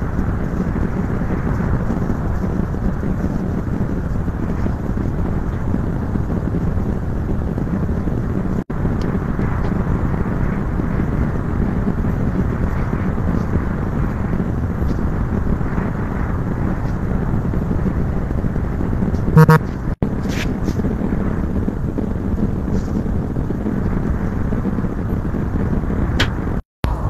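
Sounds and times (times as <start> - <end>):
steady rumbling background noise: 0.0 - 27.0.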